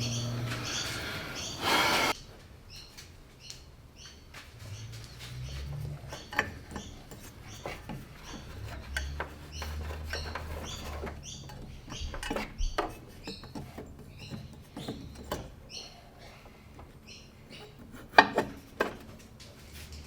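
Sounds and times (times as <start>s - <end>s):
small bird chirping: 0.0s - 16.4s.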